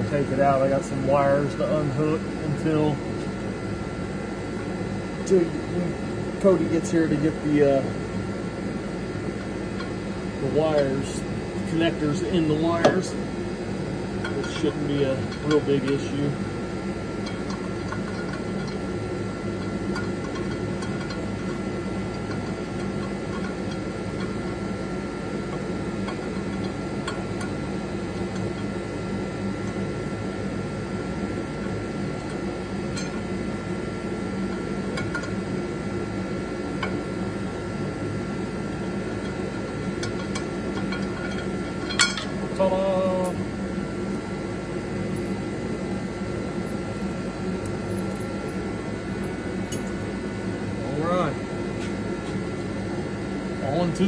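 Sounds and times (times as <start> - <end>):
background hum: 0.0 - 54.0.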